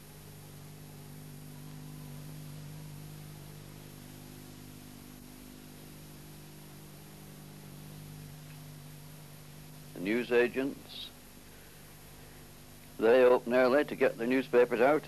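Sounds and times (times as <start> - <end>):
electrical hum: 0.0 - 15.0
tape hiss: 0.0 - 15.0.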